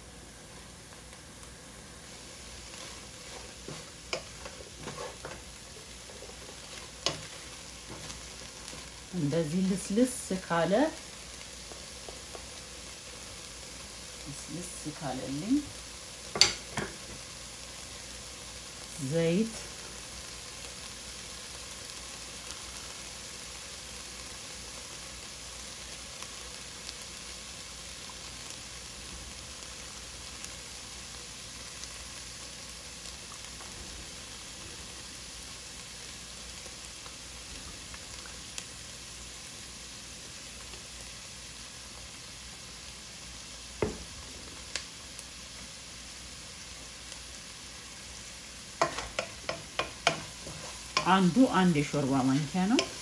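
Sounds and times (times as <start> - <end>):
onions sizzling in a pot: 0.0 - 53.0.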